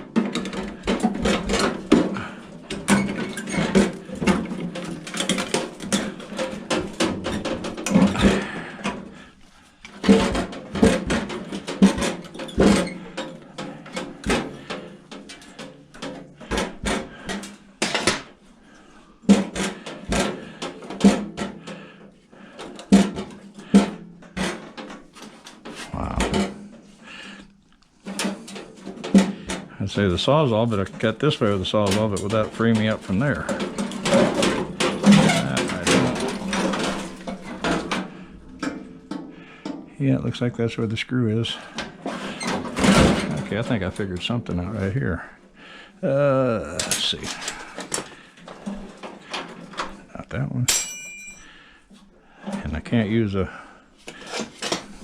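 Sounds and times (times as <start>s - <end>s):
hand tools clanking on sheet metal: 0.0s - 27.4s, 28.0s - 40.3s, 41.2s - 45.0s, 50.7s - 51.7s, 53.4s - 55.0s.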